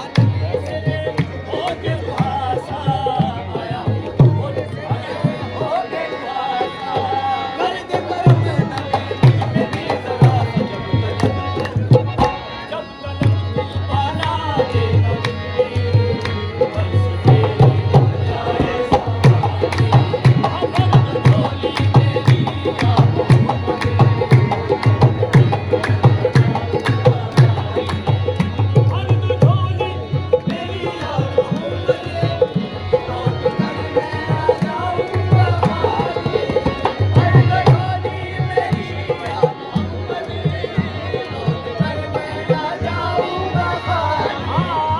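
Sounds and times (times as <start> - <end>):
tabla drumming: 0.0 - 44.9.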